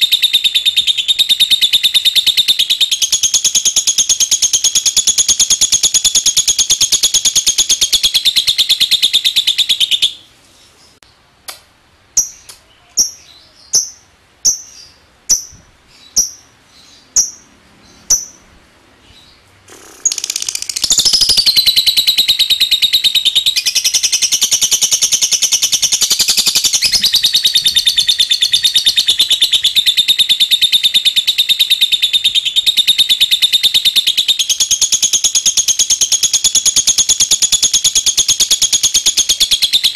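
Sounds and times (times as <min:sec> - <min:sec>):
bird chattering trill: 0:00.0 - 0:10.2, 0:12.2 - 0:18.5, 0:19.1 - 0:39.9.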